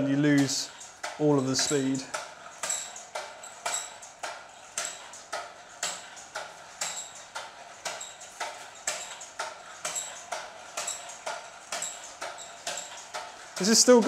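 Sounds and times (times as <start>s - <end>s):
air engine puffing and clicking: 0.0s - 14.0s.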